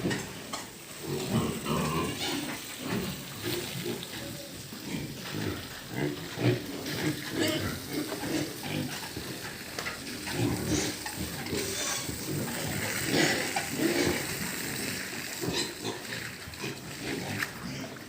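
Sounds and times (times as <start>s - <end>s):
pigs grunting: 0.0s - 18.0s.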